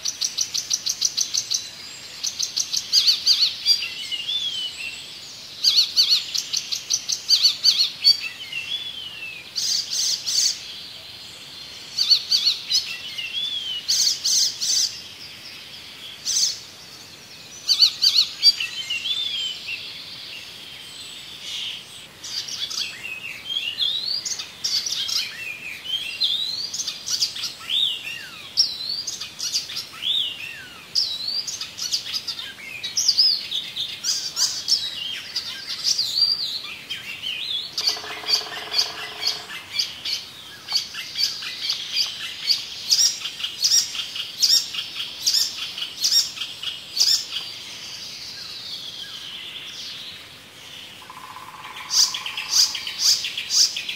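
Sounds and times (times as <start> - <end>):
songbirds chirping and singing: 0.0 - 53.9.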